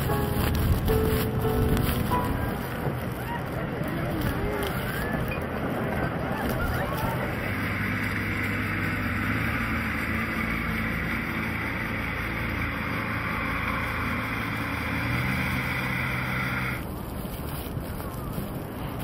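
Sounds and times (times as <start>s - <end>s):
engine hum with hiss: 0.0s - 19.0s.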